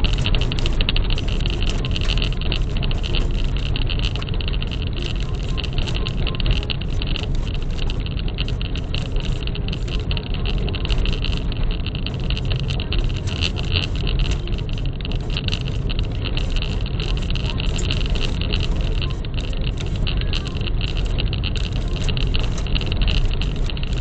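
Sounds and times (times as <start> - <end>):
car engine and tyres rumbling: 0.0 - 24.0
clicks and rattles: 0.0 - 24.0.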